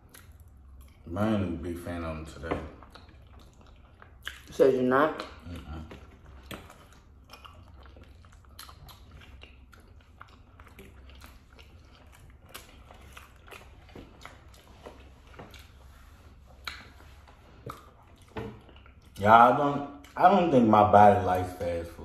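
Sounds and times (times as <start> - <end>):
chewing and wet mouth noises: 0.0 - 20.8.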